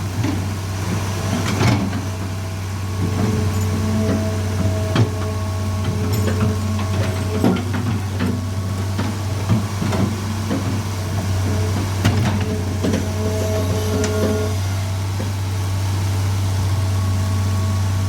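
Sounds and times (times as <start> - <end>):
track knocks and clanks: 0.0 - 15.5
excavator engine running: 0.0 - 18.0.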